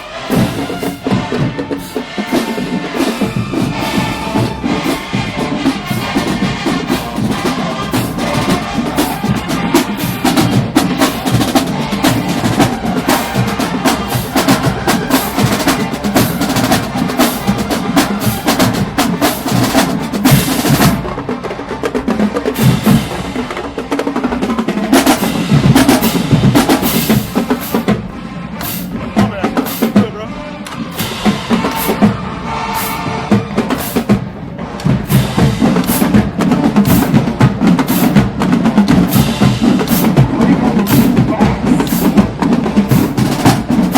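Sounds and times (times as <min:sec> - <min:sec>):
snare drum strokes: 0:00.0 - 0:21.0, 0:22.4 - 0:43.9.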